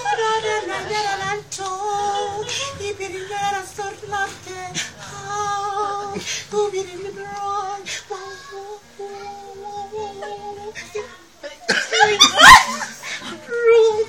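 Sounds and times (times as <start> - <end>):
acoustic guitar: 0.0 - 14.0
high voice singing: 0.0 - 14.0.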